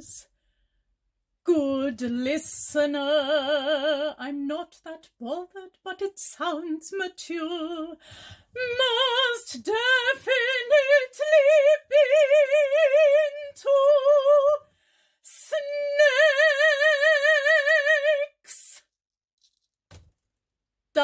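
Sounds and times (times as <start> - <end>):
woman singing a cappella: 0.0 - 0.3, 1.4 - 14.7, 15.3 - 18.8.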